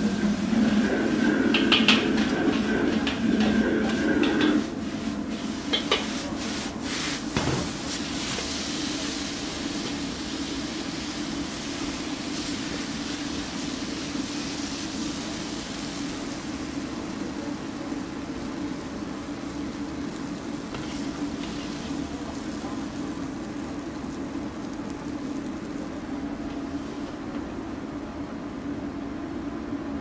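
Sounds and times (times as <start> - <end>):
food sizzling: 0.0 - 27.8
low kitchen hum: 0.0 - 30.0.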